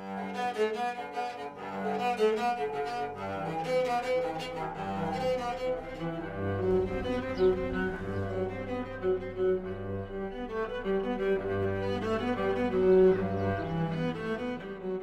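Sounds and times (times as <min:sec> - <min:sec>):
bowed cello melody: 0:00.0 - 0:15.0.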